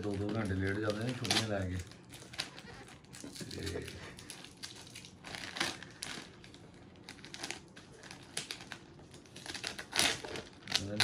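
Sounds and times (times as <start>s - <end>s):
gift wrapping crinkling: 0.0s - 11.0s.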